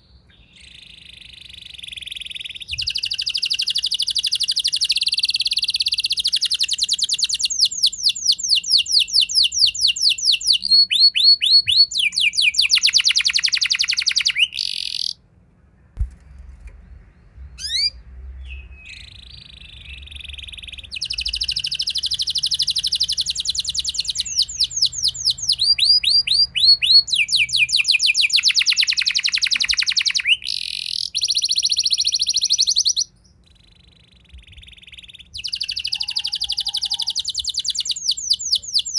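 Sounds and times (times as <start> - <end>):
canary singing trills: 0.0 - 15.2, 17.0 - 38.9.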